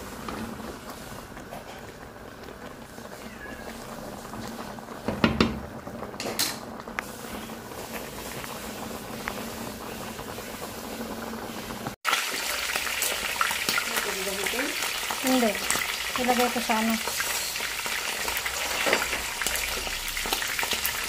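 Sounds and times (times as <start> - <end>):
fish sizzling in hot oil: 0.0 - 21.0
soup boiling in a pot: 0.0 - 21.0.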